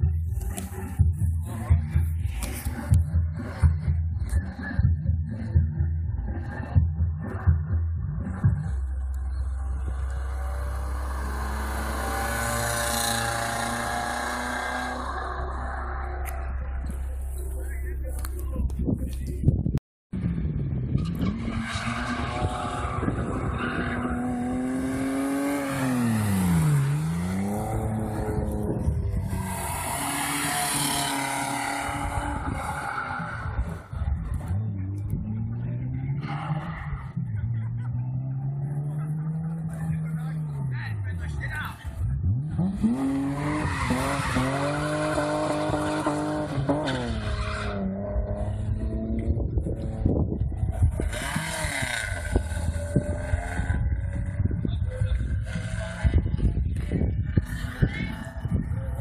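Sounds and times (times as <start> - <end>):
car engine at high revs: 0.0 - 19.4, 20.2 - 59.0.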